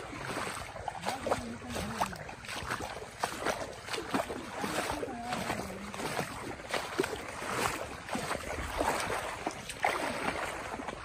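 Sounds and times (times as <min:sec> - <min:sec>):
bare feet splashing in mud water: 0:00.0 - 0:11.0.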